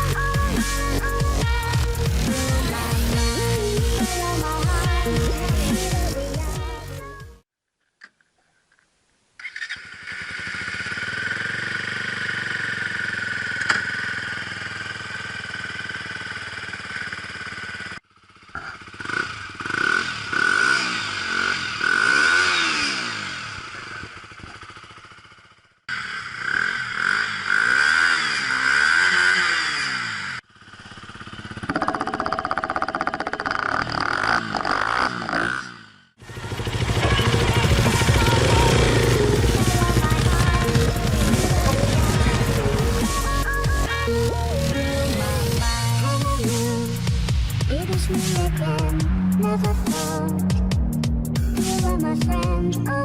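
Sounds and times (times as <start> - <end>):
motorcycle engine revving: 0.0 - 7.1, 9.6 - 53.0.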